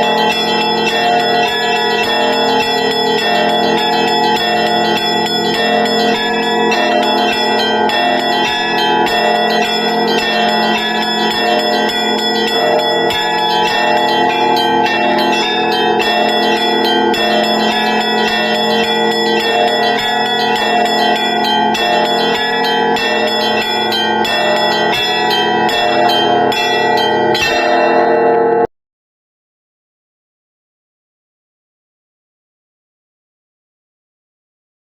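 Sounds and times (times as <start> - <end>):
small bells striking quickly: 0.0 - 28.5
deep church bells ringing: 0.0 - 28.7.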